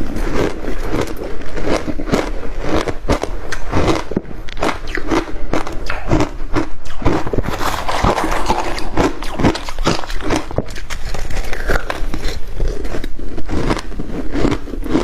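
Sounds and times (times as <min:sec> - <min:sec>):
crunching ice being chewed: 0:00.0 - 0:15.0.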